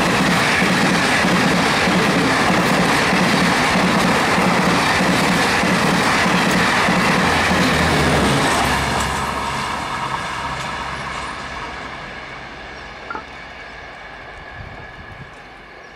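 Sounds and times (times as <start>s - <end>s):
train rushing past on rails: 0.0s - 15.9s.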